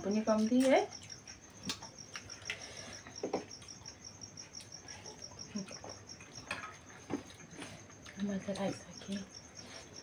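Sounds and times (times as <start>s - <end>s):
cricket chirping: 0.0s - 10.0s
people chewing food: 0.0s - 10.0s.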